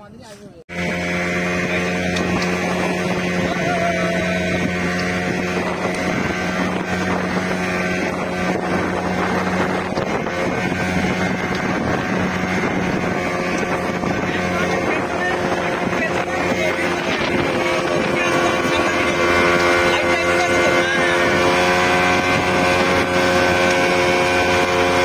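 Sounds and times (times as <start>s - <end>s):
wind noise on microphone: 0.0s - 25.0s
speedboat engine droning: 0.4s - 25.0s.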